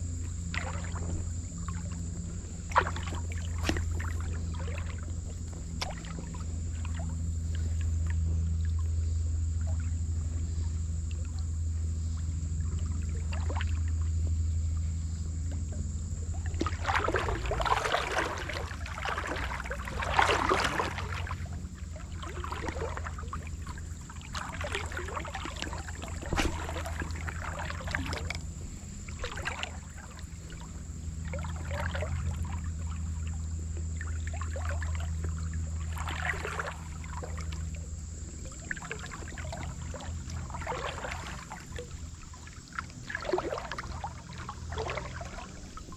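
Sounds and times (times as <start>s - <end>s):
river water splashing: 0.0s - 45.9s
steady low rumble: 0.0s - 45.9s.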